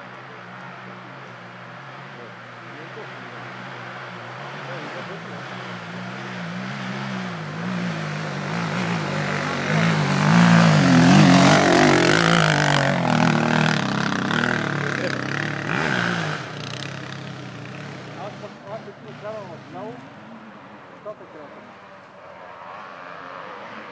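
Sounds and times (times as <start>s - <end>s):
dirt bike engines revving: 0.0s - 23.9s.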